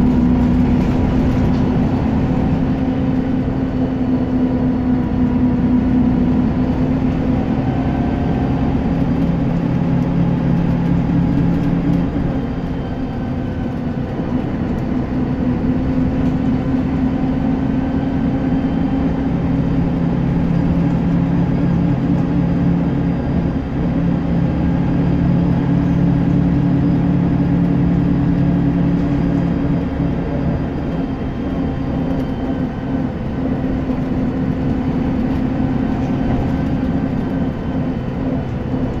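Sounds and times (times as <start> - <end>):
bus diesel engine running: 0.0 - 39.0
road rumble: 0.0 - 39.0.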